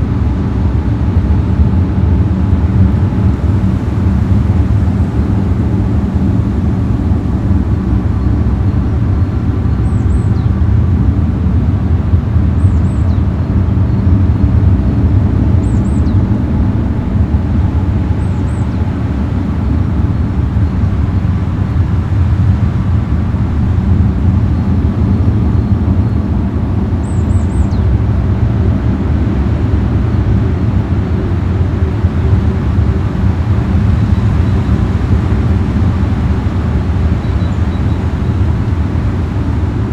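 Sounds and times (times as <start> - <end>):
loud low drone: 0.0 - 39.9.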